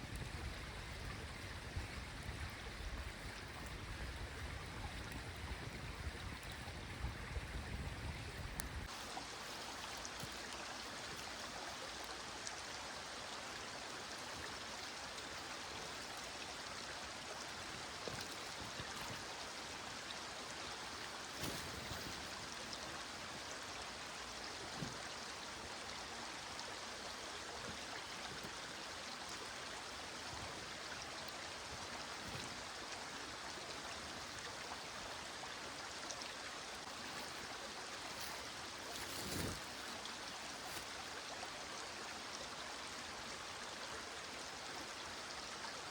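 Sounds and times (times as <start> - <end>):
stream babbling: 0.0 - 45.9.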